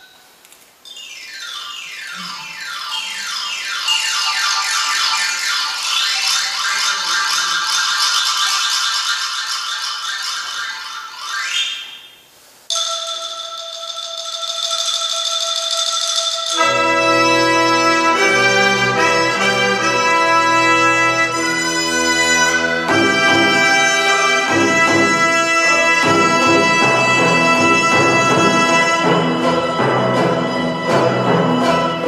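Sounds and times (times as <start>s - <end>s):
percussion strokes: 0.8s - 32.0s
traditional orchestra playing: 1.0s - 11.2s, 16.0s - 32.0s.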